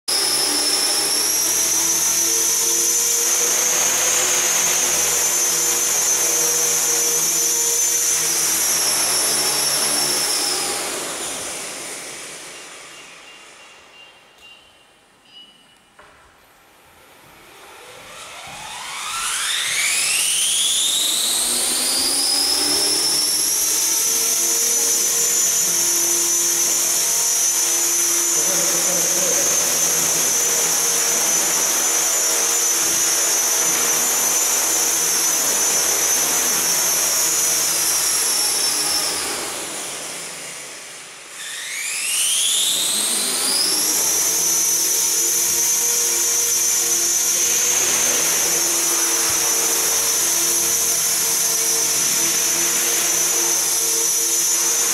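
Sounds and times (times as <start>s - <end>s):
rc helicopter motor whine: 0.1s - 14.3s, 16.7s - 54.9s.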